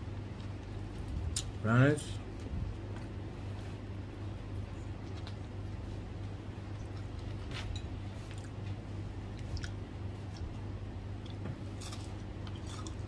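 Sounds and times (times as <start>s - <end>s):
steady low hum: 0.0s - 13.0s
chewing with small crunches: 0.1s - 1.6s, 2.3s - 13.0s.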